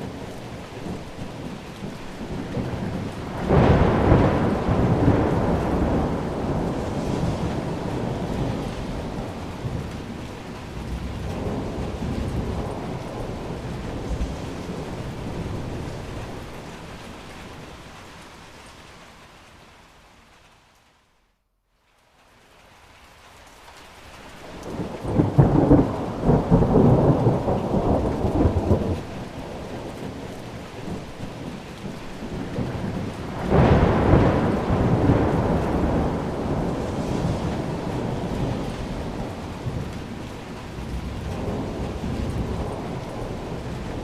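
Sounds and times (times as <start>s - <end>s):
thunder rolling: 0.0s - 18.2s, 24.4s - 44.0s
steady rain: 0.0s - 44.0s.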